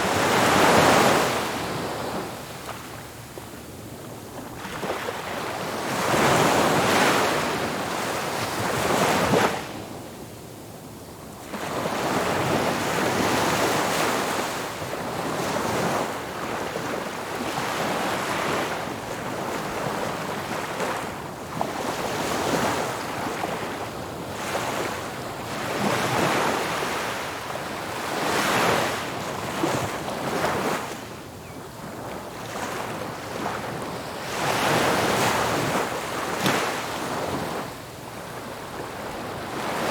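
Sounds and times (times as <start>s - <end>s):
ocean waves breaking on shore: 0.0s - 3.5s, 4.2s - 9.8s, 11.4s - 39.9s.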